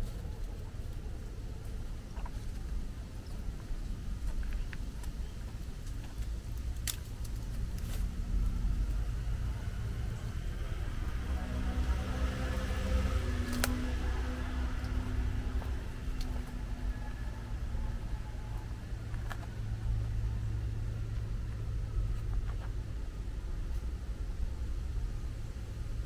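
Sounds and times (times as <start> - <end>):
vehicle passing on road: 0.0 - 26.0.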